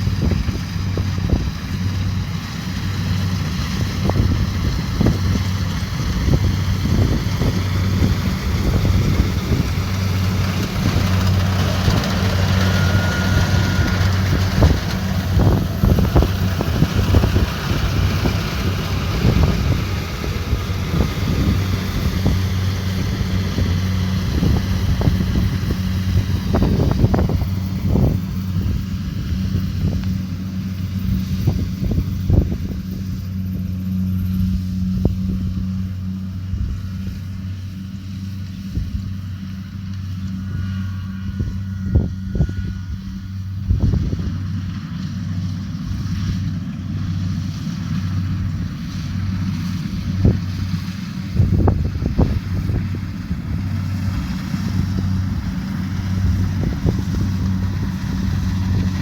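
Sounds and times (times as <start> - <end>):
combine harvester diesel hum: 0.0 - 59.0.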